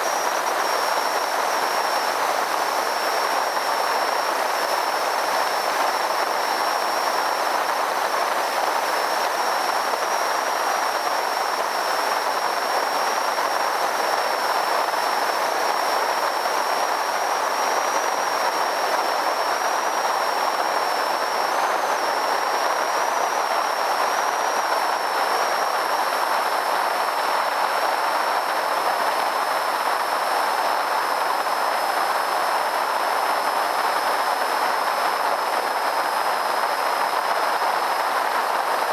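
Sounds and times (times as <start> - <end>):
thin high whine: 0.0 - 38.9.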